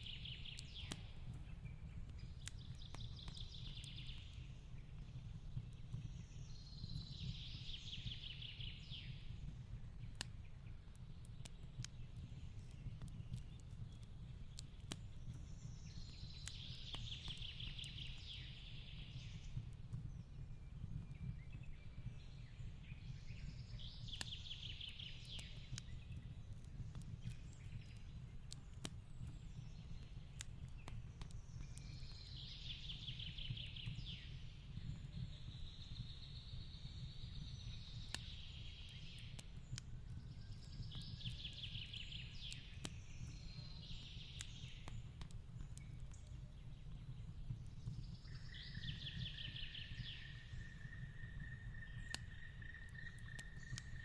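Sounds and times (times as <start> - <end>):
fireplace crackling and popping: 0.0 - 54.0.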